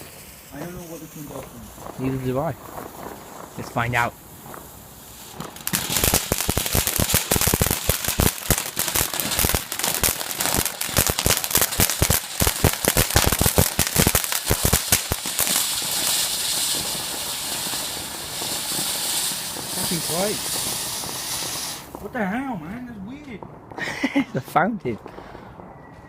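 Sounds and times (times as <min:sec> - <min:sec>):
steady hiss: 0:00.0 - 0:23.2
firework crackling bangs: 0:00.0 - 0:25.8.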